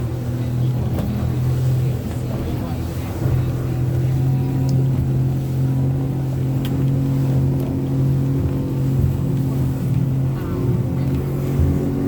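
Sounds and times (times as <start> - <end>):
motorboat engine droning: 0.0 - 12.0
water noise: 0.0 - 12.0
wind: 0.0 - 12.0.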